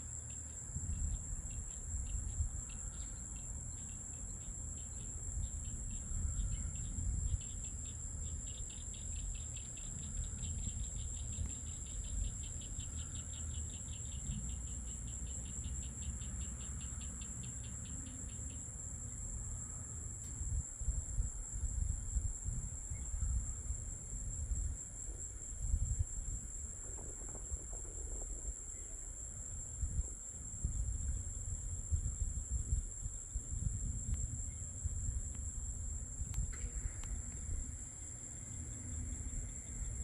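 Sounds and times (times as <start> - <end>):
insect chirping in fast pulses: 0.0 - 40.0
insect high-pitched trill: 0.1 - 40.0.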